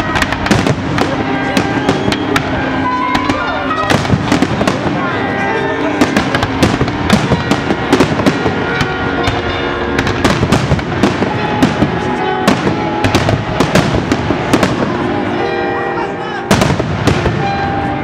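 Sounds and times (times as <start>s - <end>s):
fireworks bangs and crackles: 0.0s - 15.8s, 16.4s - 18.0s
music playing: 0.0s - 18.0s.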